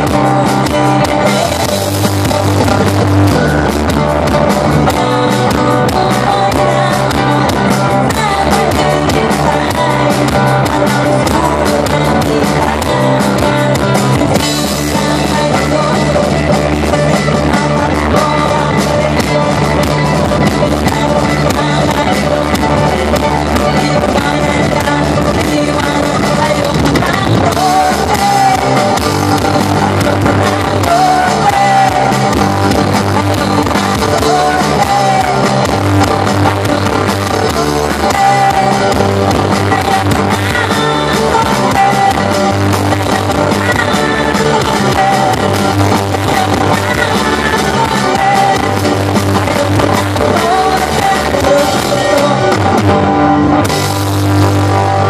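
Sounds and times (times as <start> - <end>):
woman singing into a microphone: 0.0 - 53.0
drum kit: 0.0 - 55.0
electric guitars: 0.0 - 55.0.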